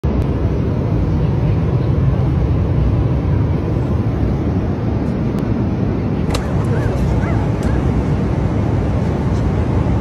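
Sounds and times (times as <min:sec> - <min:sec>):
airliner cabin noise: 0:00.0 - 0:10.0.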